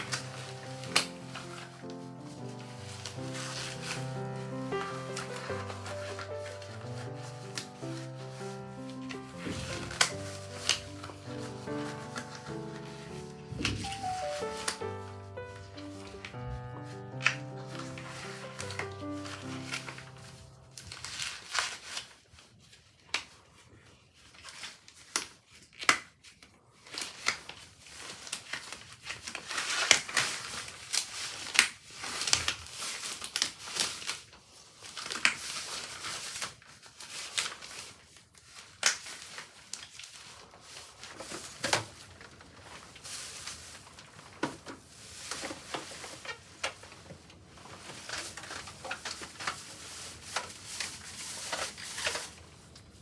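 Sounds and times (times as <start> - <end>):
crinkly material rustling: 0.0 - 53.0.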